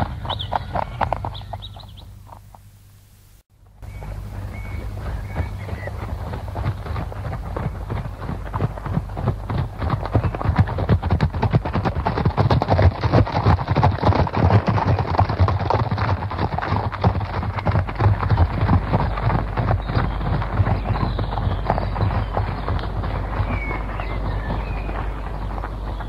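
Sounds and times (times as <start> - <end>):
horses galloping hoofbeats: 0.0 - 2.8, 3.6 - 26.0.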